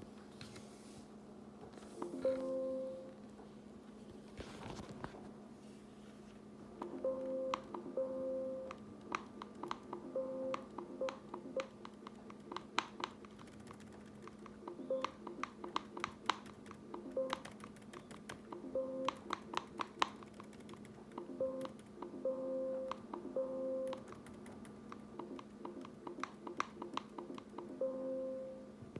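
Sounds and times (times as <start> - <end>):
steady hum: 0.0 - 28.9.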